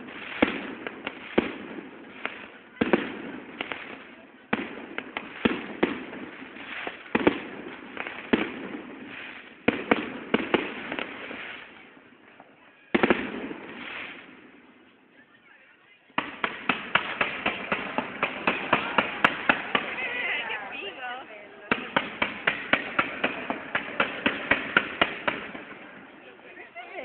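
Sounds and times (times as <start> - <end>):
rapid firework pops: 0.0 - 14.6, 16.2 - 20.1, 21.7 - 26.0
fireworks bangs and crackling: 0.0 - 27.0.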